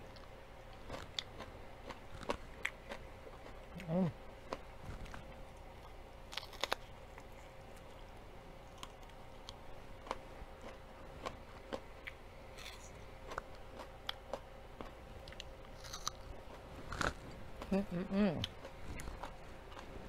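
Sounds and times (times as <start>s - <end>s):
person chewing crunchy food: 0.1s - 20.0s.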